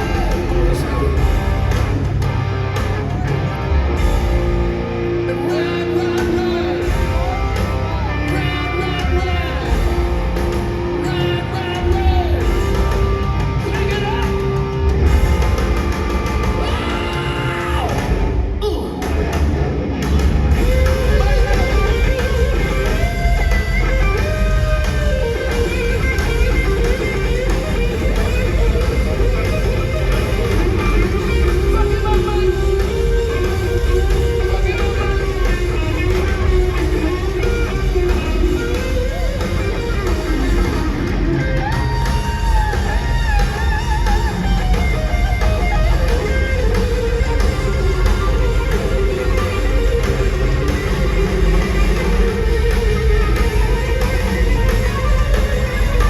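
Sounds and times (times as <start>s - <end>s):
electric guitar: 0.0s - 56.0s
hard rock band playing: 0.0s - 56.0s.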